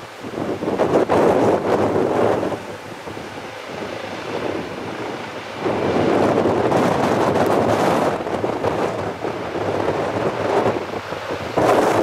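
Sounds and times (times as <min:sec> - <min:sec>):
gusty wind buffeting microphone: 0:00.0 - 0:12.0
helicopter hovering: 0:01.2 - 0:12.0.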